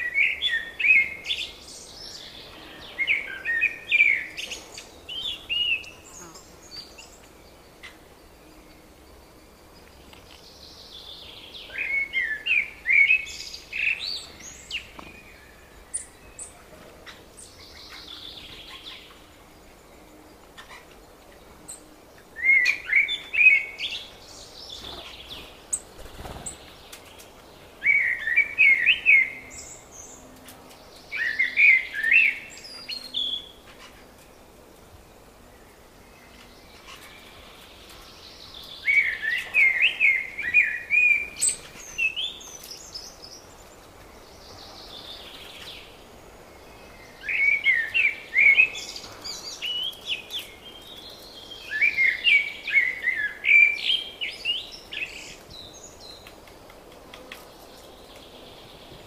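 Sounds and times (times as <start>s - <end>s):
other birds singing faintly: 0.0s - 59.0s
songbird singing: 0.0s - 59.0s.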